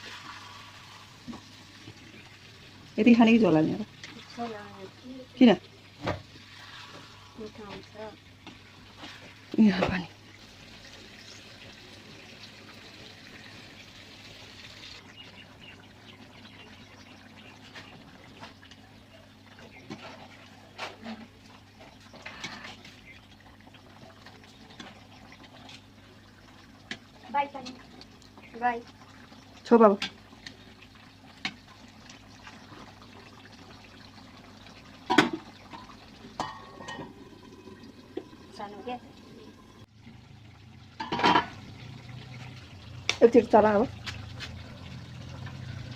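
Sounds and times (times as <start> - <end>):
pot bubbling: 0.0 - 45.9
water sizzling in a frying pan: 0.0 - 45.9.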